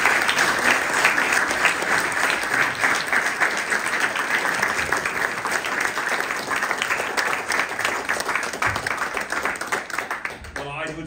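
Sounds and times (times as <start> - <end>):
people applauding: 0.0 - 11.0.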